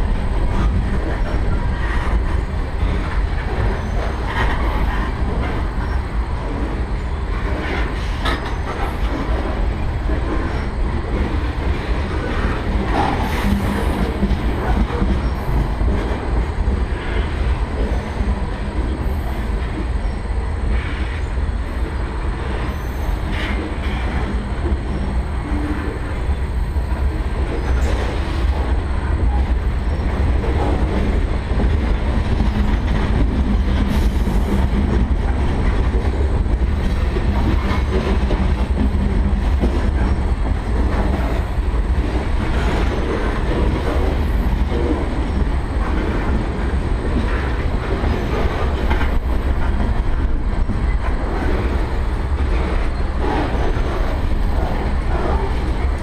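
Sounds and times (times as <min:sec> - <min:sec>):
train cars clanking: 0:00.0 - 0:56.0
train wheels rumbling on rails: 0:00.0 - 0:56.0.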